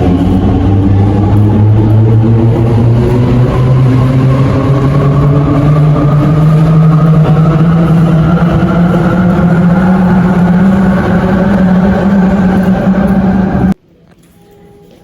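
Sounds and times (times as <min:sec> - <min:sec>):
electric train motors whining: 0:00.0 - 0:13.8.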